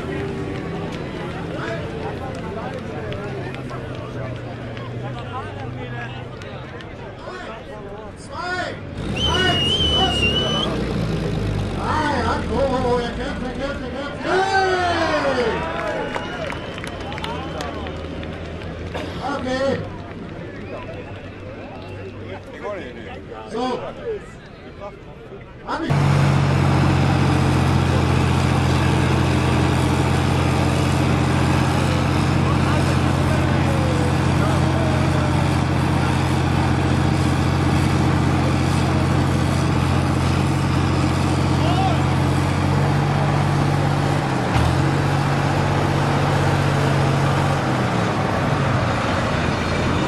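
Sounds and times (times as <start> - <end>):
heavy vehicle engine droning: 0.0 - 23.2, 25.6 - 50.0.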